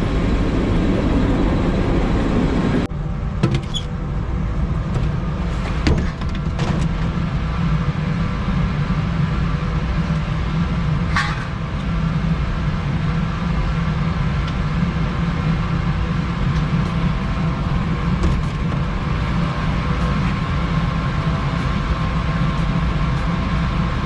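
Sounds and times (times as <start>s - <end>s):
air-conditioning hum: 0.0s - 24.0s.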